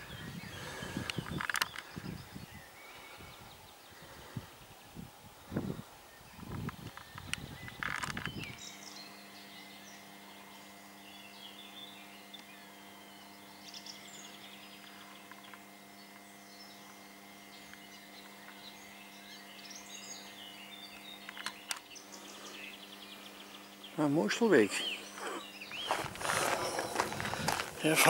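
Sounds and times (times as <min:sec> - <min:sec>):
birds chirping: 0:00.0 - 0:28.0
faint steady hum: 0:00.0 - 0:28.0.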